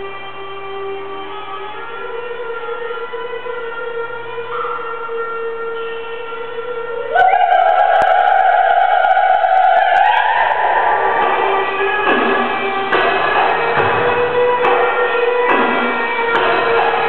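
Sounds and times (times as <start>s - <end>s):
dance music with held notes: 0.0s - 17.0s.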